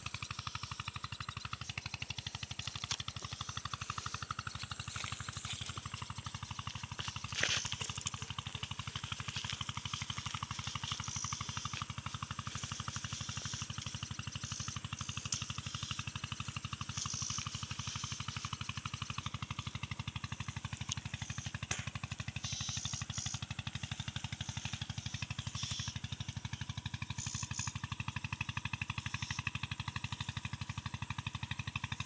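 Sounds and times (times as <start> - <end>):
small engine puttering: 0.0 - 32.0.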